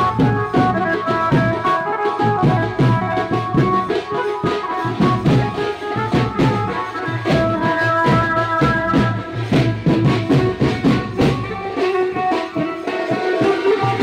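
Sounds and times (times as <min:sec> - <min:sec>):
fast drum beats: 0:00.0 - 0:14.0
wedding band melody: 0:00.0 - 0:14.0.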